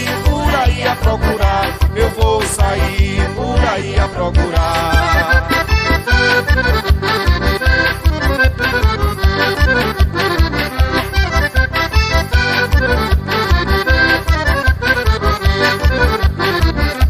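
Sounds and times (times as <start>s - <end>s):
accordion dance music: 0.0s - 17.0s.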